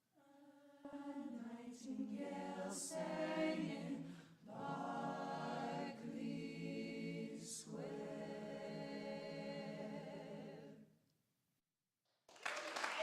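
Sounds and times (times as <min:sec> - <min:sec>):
a cappella group singing in harmony: 0:00.2 - 0:10.9.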